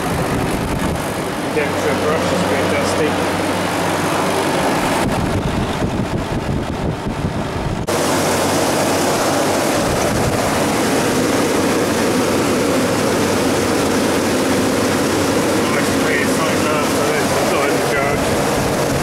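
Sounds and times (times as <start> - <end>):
condensing unit humming: 0.0 - 19.0.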